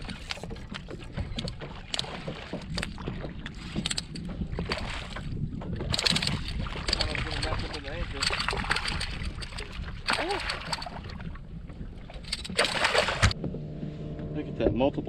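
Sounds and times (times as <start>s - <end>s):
fish thrashing and splashing: 0.0s - 13.4s
wind rumbling on microphone: 0.0s - 15.0s.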